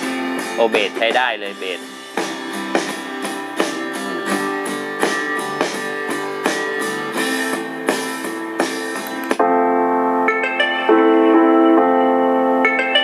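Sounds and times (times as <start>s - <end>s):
strummed guitar chords: 0.0s - 13.0s.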